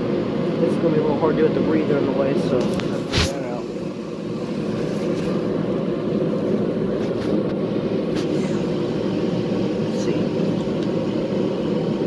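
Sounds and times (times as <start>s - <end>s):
space heater roaring: 0.0s - 12.0s.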